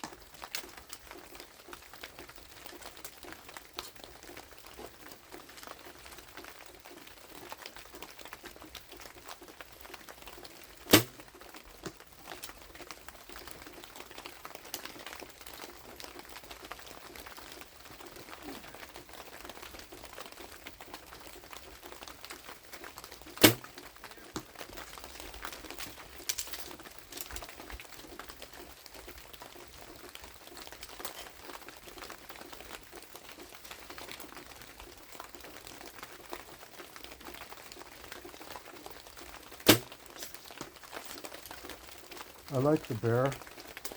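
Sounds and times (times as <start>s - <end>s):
light rain patter: 0.0s - 43.9s.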